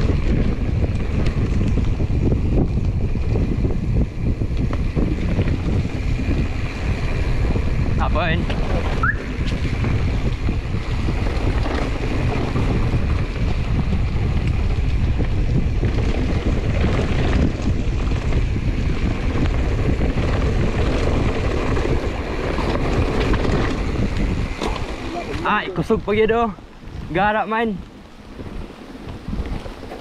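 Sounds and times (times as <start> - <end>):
bike tyres rumbling on dirt: 0.0 - 30.0
wind rushing over microphone: 0.0 - 30.0.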